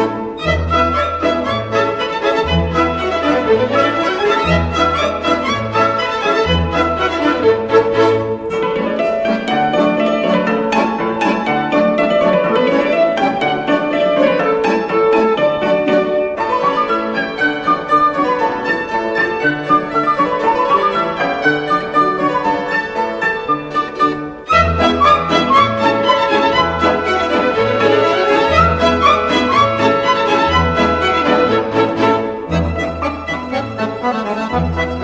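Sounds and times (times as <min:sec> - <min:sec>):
piano: 0:00.0 - 0:35.0
plucked strings: 0:00.0 - 0:35.0
violin melody: 0:00.0 - 0:35.0.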